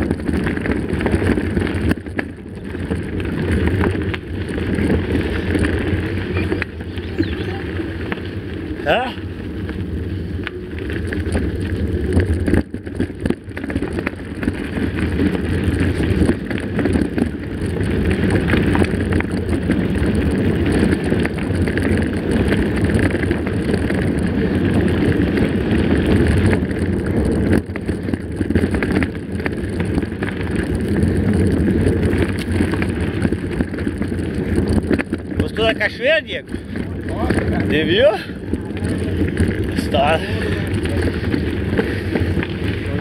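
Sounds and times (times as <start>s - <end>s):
bike rattles and clicks: 0.0s - 43.0s
tyres rumbling on gravel: 0.0s - 43.0s
wind on microphone: 0.0s - 43.0s.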